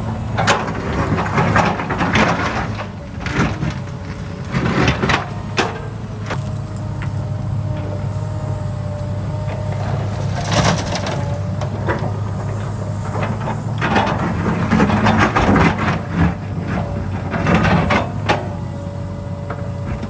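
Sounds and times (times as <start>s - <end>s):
metallic clanking and scraping: 0.0s - 18.6s
diesel construction machine running: 0.0s - 20.0s.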